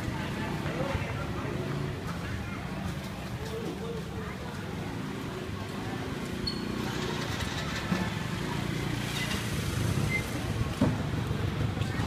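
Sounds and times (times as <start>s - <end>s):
motorcycle engine rumble: 0.0s - 12.0s
street traffic: 0.0s - 12.0s.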